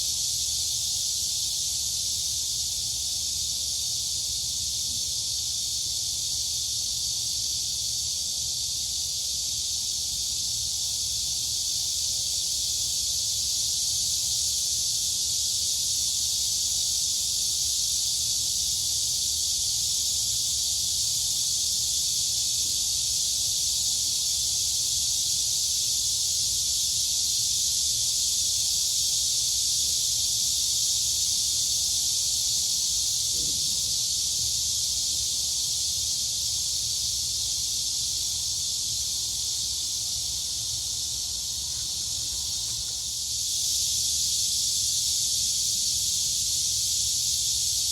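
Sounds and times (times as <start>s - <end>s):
crickets and cicadas buzzing: 0.0s - 47.9s.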